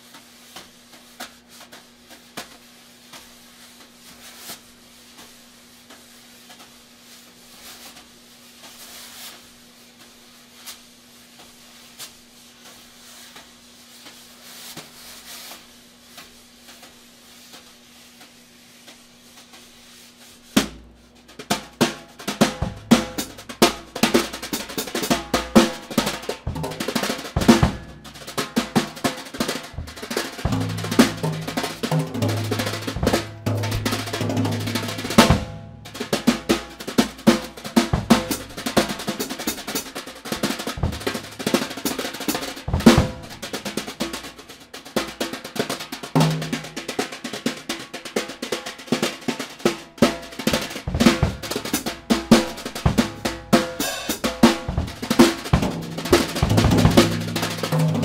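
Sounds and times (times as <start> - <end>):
drum kit played with brushes: 0.0 - 58.0.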